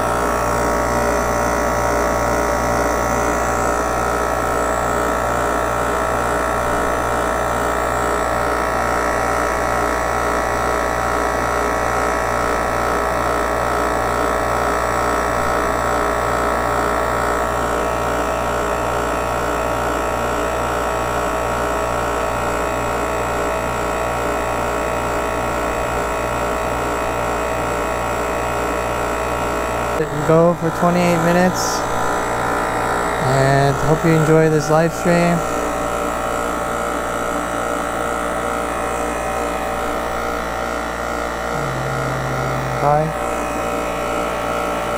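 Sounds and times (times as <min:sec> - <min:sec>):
compressor pulsing hum: 0:00.0 - 0:44.9.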